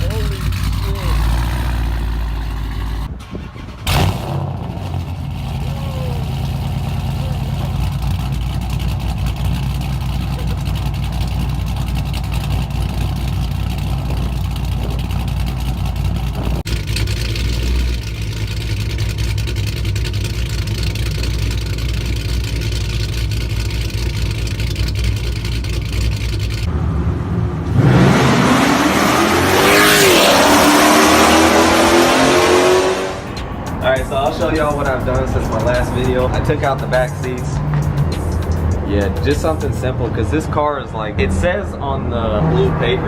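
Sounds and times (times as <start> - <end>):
car engine rumbling at idle: 0.0 - 27.0, 33.2 - 42.0
car engine revving: 0.0 - 43.0.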